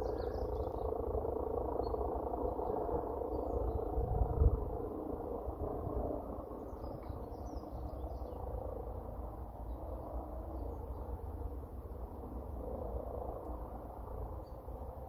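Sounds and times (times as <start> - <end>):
distant helicopter drone: 0.0 - 15.0.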